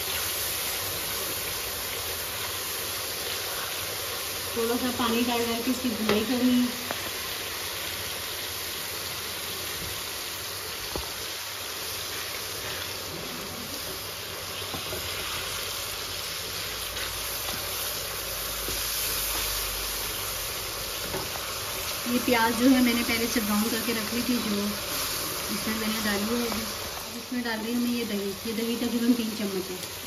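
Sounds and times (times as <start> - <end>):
food sizzling in hot oil: 0.0 - 30.0.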